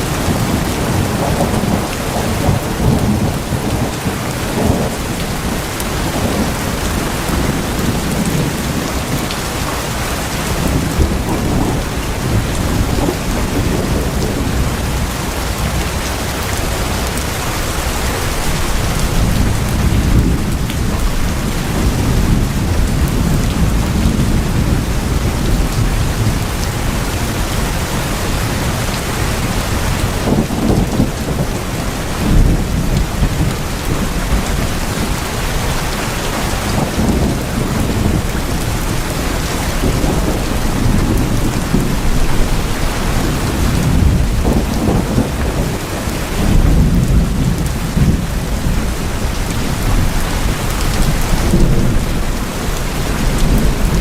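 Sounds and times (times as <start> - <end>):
heavy rain on tin roofs: 0.0 - 54.0.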